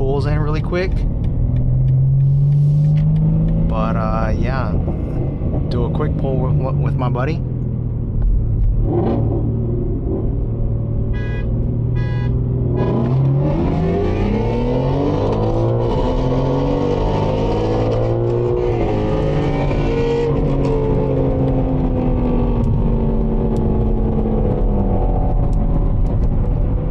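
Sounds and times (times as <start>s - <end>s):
car engine at full throttle: 0.0s - 26.9s.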